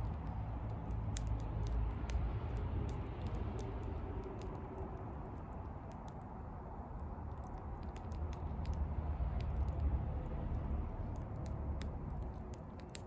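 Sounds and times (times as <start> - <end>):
bonfire crackling and popping: 0.0 - 13.0
low steady rumble: 0.0 - 13.0.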